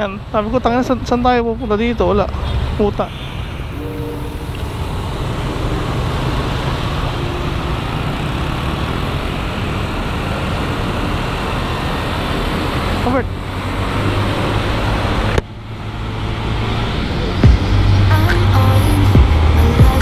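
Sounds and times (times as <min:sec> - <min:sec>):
traffic: 0:00.0 - 0:20.0
motorcycle engine: 0:03.6 - 0:20.0.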